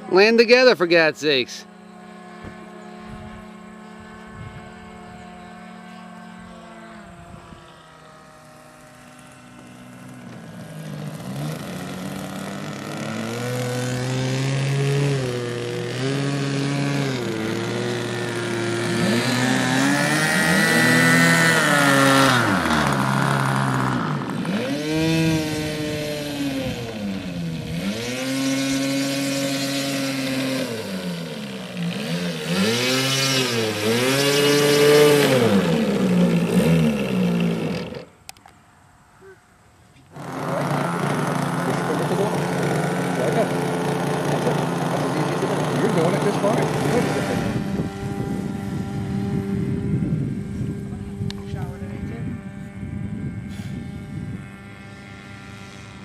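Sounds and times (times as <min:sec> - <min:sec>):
model airplane engine revving: 0:00.0 - 0:38.6, 0:40.0 - 0:56.0.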